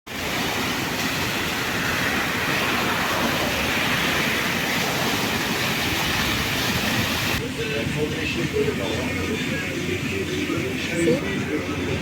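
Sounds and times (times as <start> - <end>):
moving vehicle rumble: 0.9 - 12.0.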